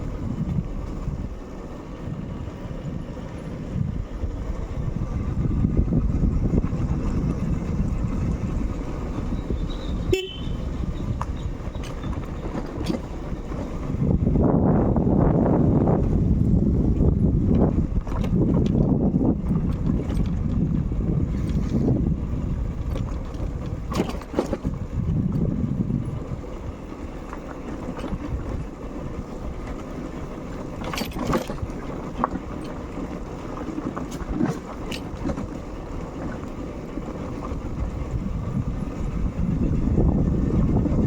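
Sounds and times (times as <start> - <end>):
motorcycle engine and tyres: 0.0 - 41.0
wind rushing over microphone: 0.0 - 41.0.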